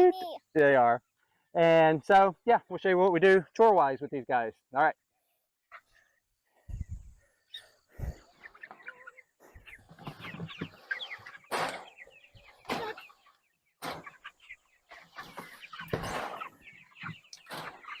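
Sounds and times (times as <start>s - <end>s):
chickens clucking and peeping: 0.0s - 18.0s.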